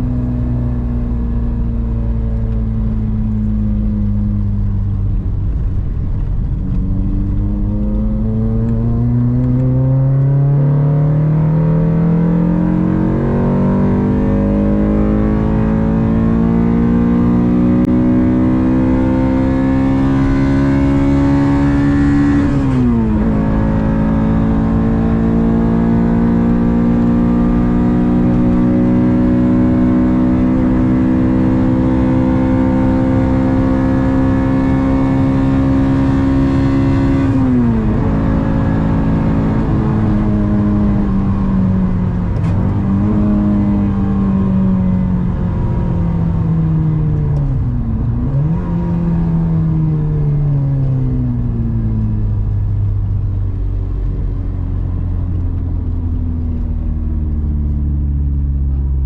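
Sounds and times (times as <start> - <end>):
car engine running while driving: 0.0 - 59.0.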